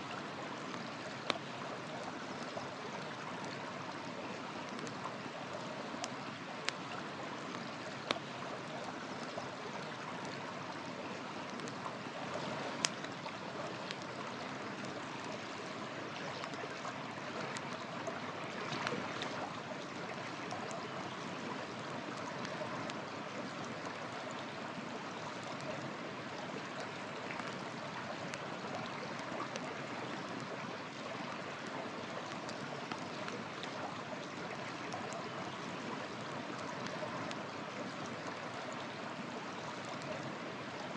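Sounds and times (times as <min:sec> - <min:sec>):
campfire popping and crackling: 0:00.0 - 0:40.7.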